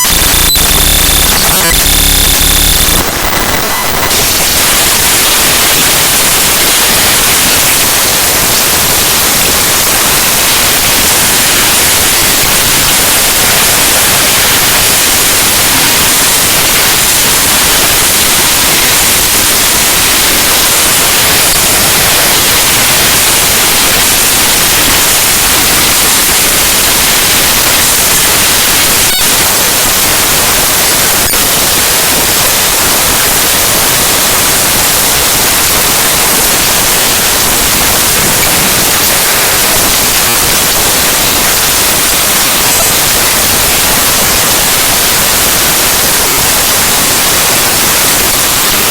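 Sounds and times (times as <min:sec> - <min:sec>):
harsh static hiss: 0:00.0 - 0:48.9.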